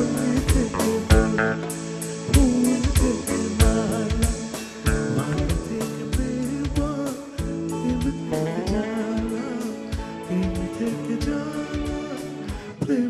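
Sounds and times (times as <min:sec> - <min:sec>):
drum kit beat: 0:00.0 - 0:13.0
guitar: 0:00.0 - 0:13.0
keyboards: 0:00.0 - 0:13.0
man singing into a microphone: 0:00.0 - 0:13.0.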